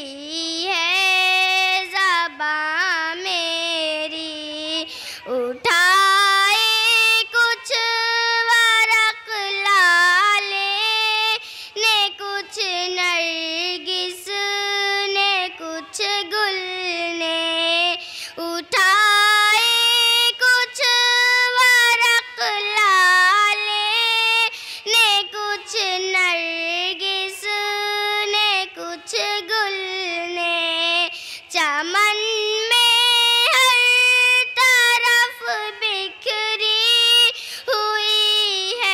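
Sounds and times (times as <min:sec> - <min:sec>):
girl singing: 0:00.0 - 0:38.9.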